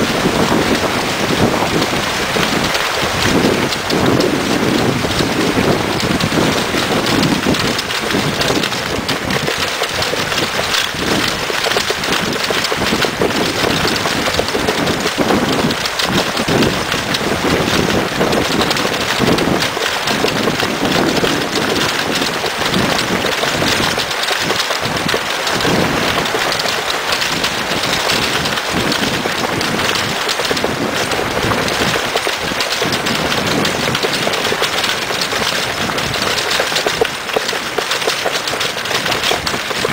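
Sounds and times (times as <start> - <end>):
cart wheels crunching on gravel: 0.0 - 39.9
wind buffeting microphone: 0.0 - 39.9.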